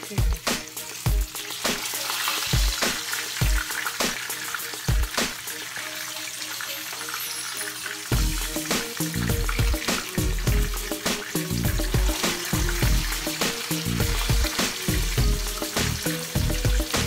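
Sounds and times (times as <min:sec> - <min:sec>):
background music with steady beat: 0:00.0 - 0:17.0
food sizzling in hot oil: 0:00.0 - 0:17.0.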